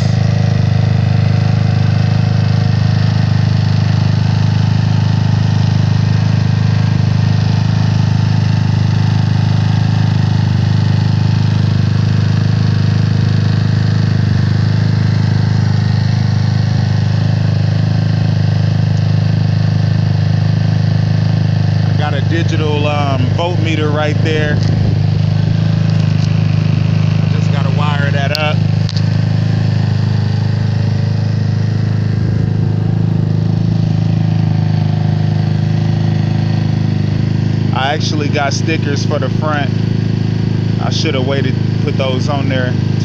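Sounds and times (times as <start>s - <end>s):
scooter engine running steadily: 0.0s - 43.0s.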